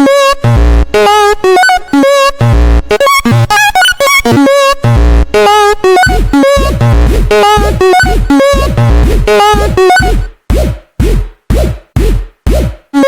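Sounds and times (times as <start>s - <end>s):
choppy electronic music: 0.0s - 13.0s.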